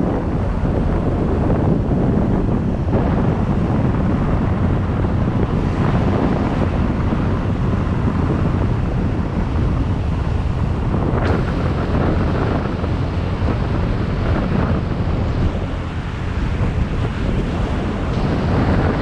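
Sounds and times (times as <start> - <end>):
motorbike engine and road noise: 0.0 - 19.0
wind buffeting microphone: 0.0 - 19.0.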